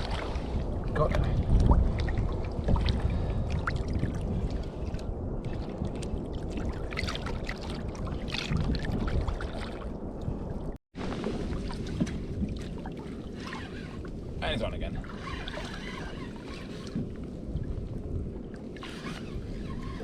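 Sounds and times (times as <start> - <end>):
water lapping against kayak hull: 0.0 - 20.0.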